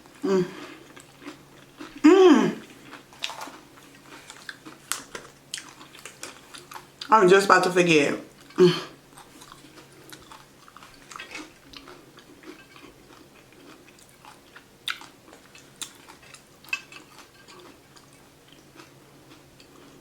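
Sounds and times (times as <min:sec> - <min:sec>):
person chewing food: 0:00.0 - 0:07.1, 0:08.3 - 0:20.0
sharp chewing crunches: 0:00.6 - 0:02.0, 0:02.6 - 0:07.1, 0:08.4 - 0:20.0.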